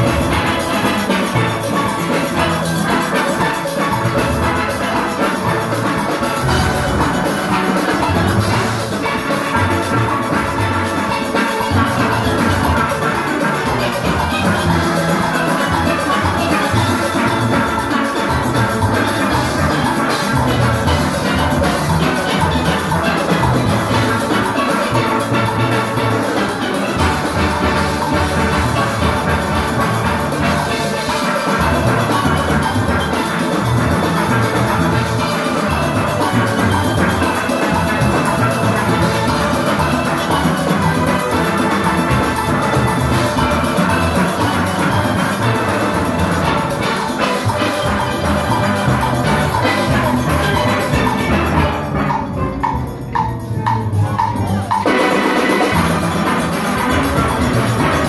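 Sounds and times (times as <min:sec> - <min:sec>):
steel orchestra playing: 0:00.0 - 0:58.0.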